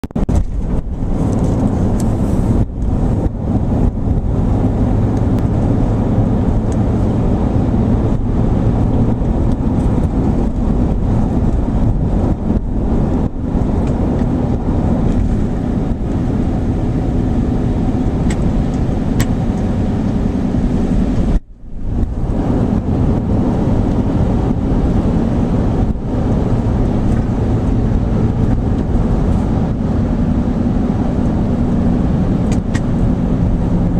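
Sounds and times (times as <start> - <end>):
road rumble: 0.0 - 33.9
truck engine drone: 0.0 - 33.9.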